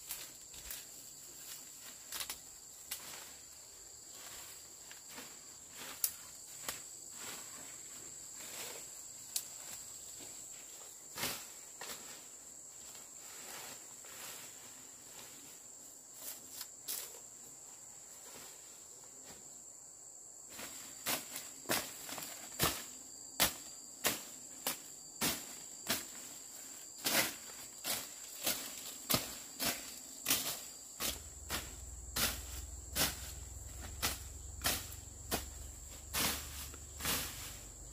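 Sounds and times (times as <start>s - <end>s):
insects chirring: 0.0s - 37.9s.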